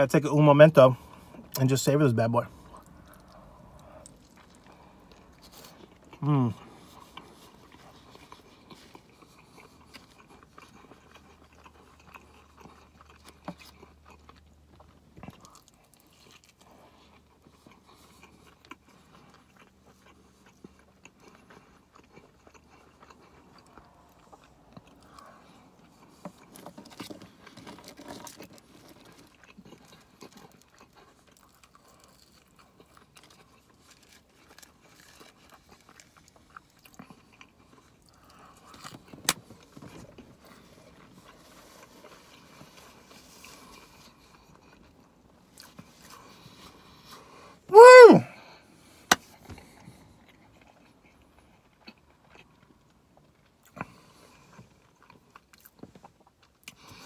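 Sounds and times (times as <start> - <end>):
person chewing crispy food: 0.7 - 57.0.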